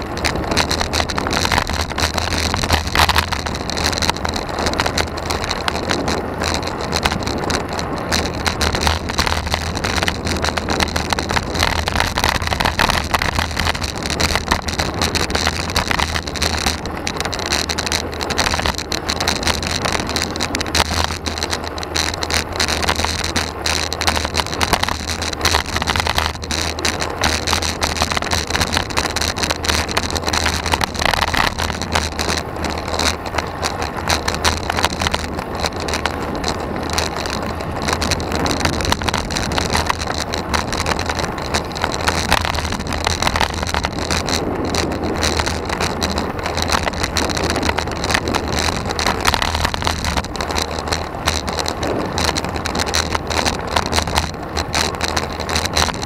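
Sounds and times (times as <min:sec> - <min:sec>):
rattles and knocks from vibration: 0:00.0 - 0:56.0
tyre and road noise: 0:00.0 - 0:56.0
wind buffeting microphone: 0:00.0 - 0:56.0.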